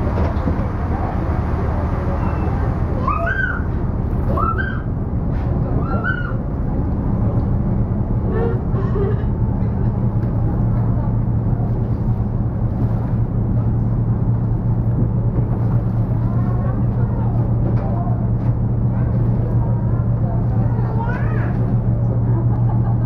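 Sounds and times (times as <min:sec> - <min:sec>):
ship diesel engine humming: 0:00.0 - 0:23.0.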